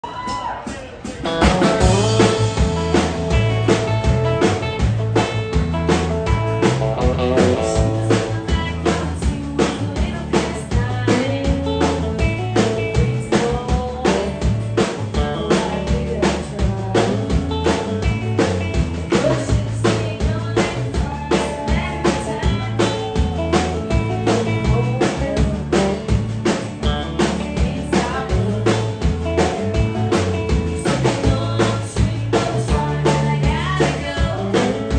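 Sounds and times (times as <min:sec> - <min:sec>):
live country band playing: 0:00.0 - 0:34.9.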